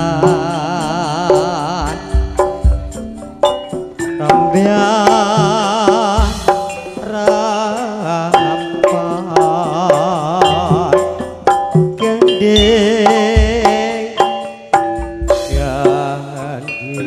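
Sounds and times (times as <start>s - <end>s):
regular drum strokes: 0.0s - 17.0s
singer with wide vibrato: 0.0s - 17.0s.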